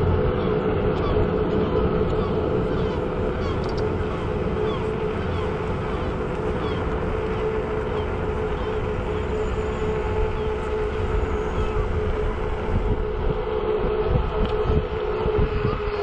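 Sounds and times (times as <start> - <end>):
electric scooter motor whine: 0.0 - 16.0
wind on microphone: 0.0 - 16.0.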